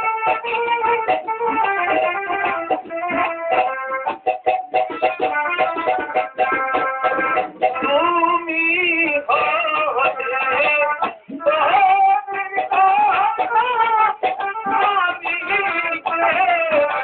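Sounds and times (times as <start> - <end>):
plucked-string rhythm: 0.0 - 17.0.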